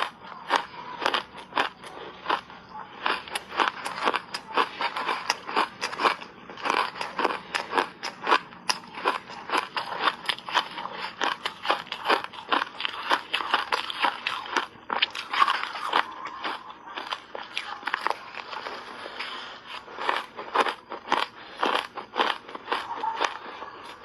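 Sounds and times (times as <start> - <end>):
person crunching ice: 0.0 - 2.4, 3.0 - 24.0.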